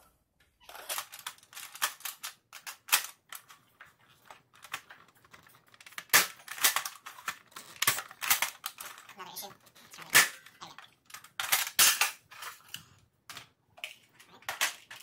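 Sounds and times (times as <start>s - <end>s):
plastic clicks and clacks: 0.4s - 15.0s.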